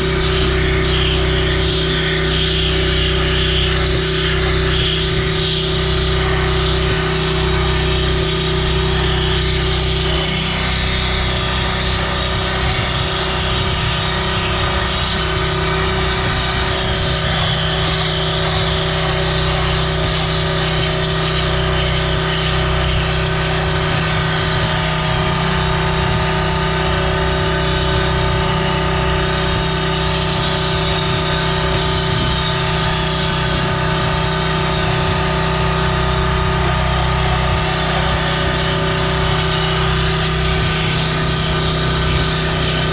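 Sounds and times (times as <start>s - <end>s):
pressure washer engine hum: 0.0s - 42.9s
water and sand spraying hiss: 0.0s - 42.9s.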